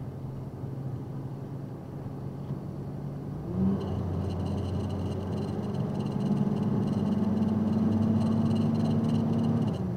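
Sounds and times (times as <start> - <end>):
vehicle engine humming: 0.0 - 9.9.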